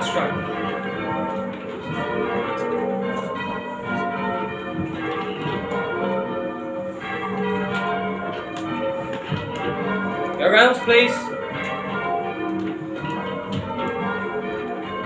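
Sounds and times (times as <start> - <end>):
church bells change ringing: 0.0 - 15.0.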